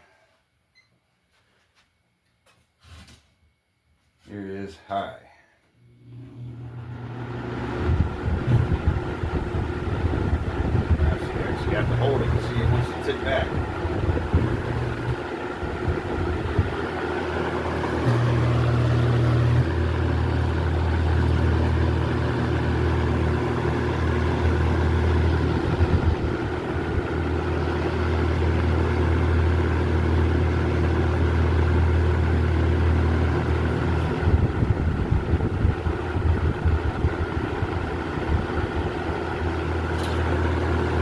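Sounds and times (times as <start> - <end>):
box fan running: 5.9 - 41.0.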